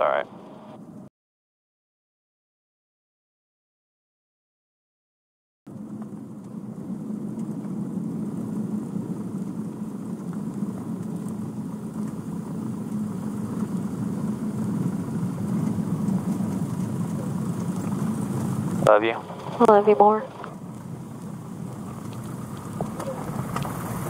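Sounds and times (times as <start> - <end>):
light aircraft engine drone: 0.0 - 1.1, 5.7 - 24.0.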